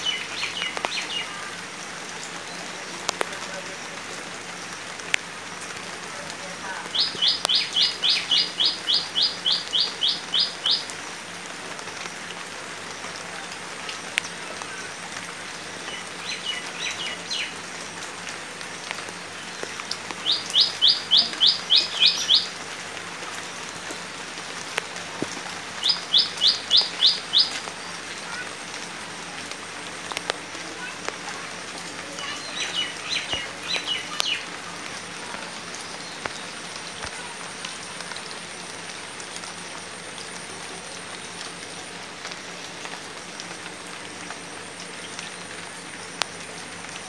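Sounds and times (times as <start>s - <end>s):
light rain on leaves and water: 0.0s - 47.0s.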